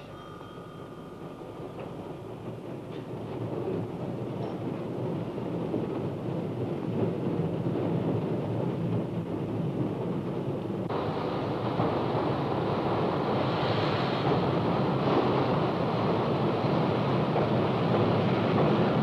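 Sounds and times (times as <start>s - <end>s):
steam train rushing rumble: 0.0s - 19.0s.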